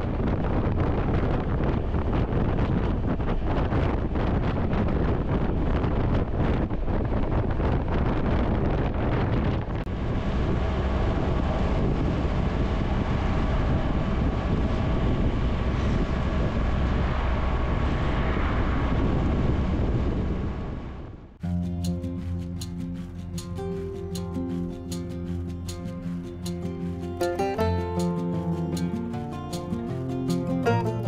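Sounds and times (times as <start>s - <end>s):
road noise: 0.0s - 31.0s
wind rushing over microphone: 0.0s - 31.0s.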